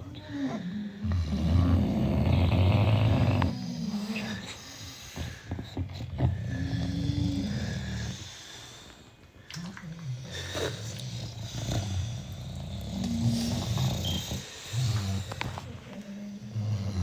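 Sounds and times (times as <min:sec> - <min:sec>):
dogs snoring: 0:00.0 - 0:17.0.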